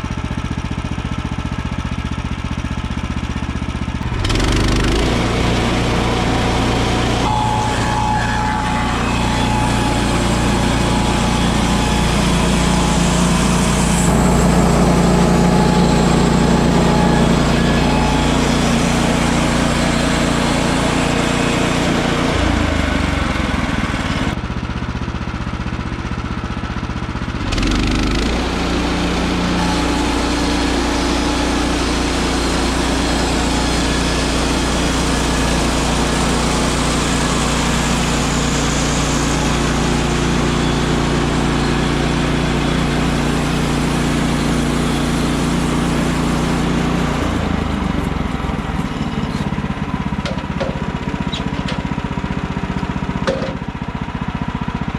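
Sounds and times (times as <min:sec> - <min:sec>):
bandsaw mill engine running: 0:00.0 - 0:54.9.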